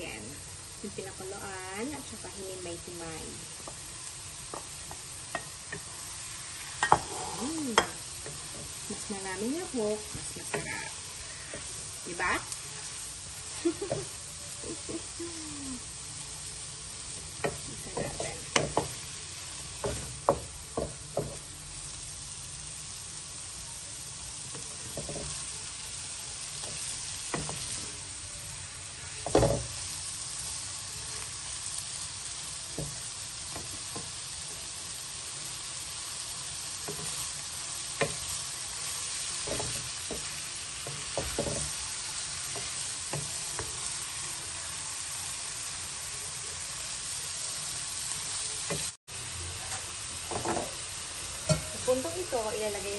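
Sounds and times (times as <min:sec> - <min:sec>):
food sizzling in a wok: 0:00.0 - 0:52.9.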